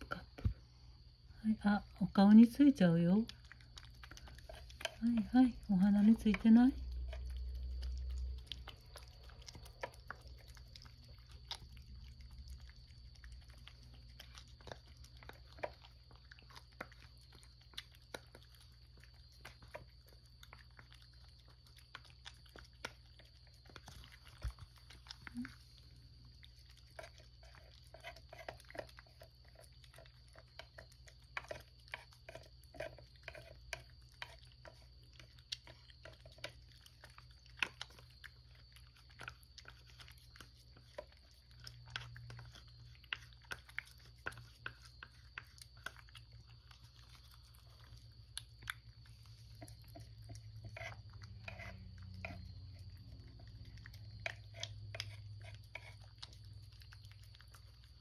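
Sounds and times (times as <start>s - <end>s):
cat chewing wet food: 0.0s - 58.0s.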